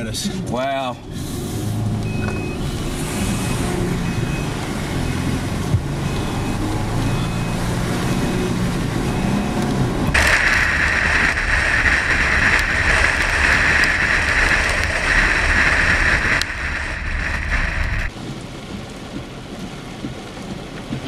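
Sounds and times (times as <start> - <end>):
car low rumble: 0.0 - 21.0
heavy rain and wind: 0.0 - 21.0
tyre spray on wet road: 1.1 - 21.0.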